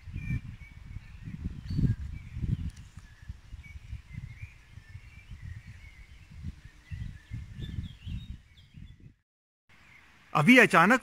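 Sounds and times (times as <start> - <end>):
wind rumbling on microphone: 0.0 - 9.2
small birds chirping: 0.0 - 11.0.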